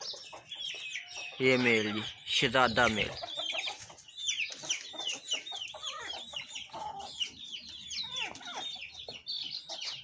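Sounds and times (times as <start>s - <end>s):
chickens clucking and chirping: 0.0s - 10.0s.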